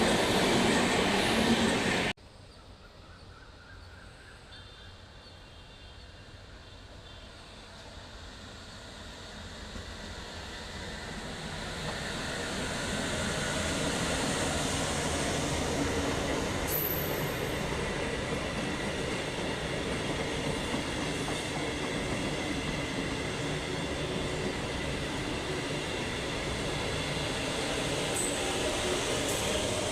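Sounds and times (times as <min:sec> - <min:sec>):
express train passing at speed: 0:00.0 - 0:02.2, 0:02.9 - 0:29.9.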